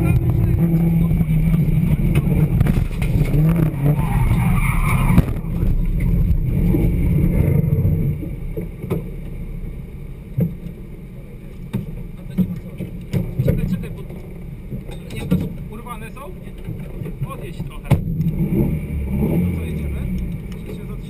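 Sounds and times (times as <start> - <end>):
car engine running inside cabin: 0.0 - 21.0.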